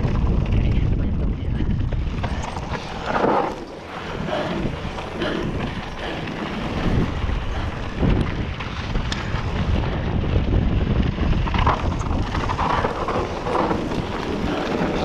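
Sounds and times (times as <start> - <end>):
bike tyres rolling on gravel: 0.0 - 15.0
wind buffeting microphone: 0.0 - 15.0.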